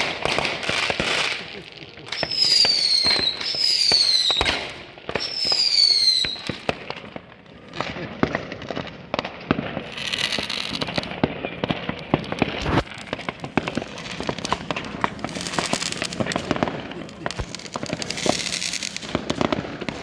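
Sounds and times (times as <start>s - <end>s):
firecracker bangs: 0.0s - 20.0s
firework hissing crackle: 0.0s - 20.0s
whistling firework: 0.0s - 20.0s.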